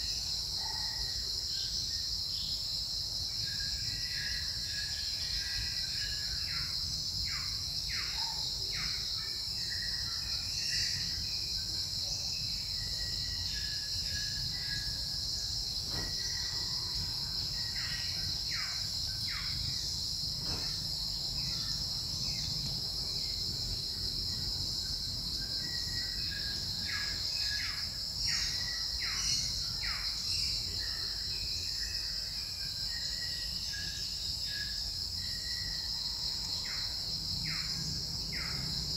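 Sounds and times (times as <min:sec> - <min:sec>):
insects buzzing drone: 0:00.0 - 0:38.9.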